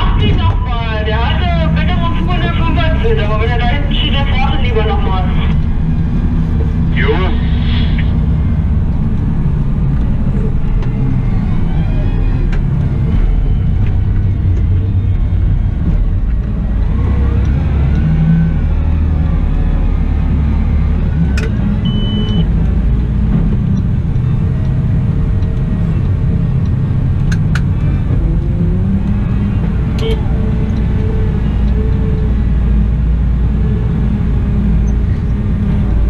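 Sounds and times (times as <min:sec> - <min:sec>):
wheel loader engine rumble: 0:00.0 - 0:36.0.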